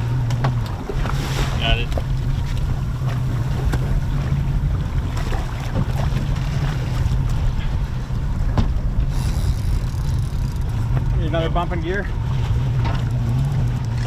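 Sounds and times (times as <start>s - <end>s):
boat engine idling: 0.0s - 14.0s
wind on microphone: 0.0s - 14.0s.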